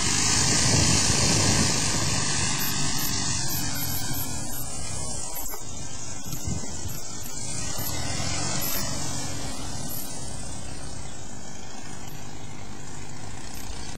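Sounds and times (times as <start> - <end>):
light aircraft engine and propeller: 0.0 - 13.9.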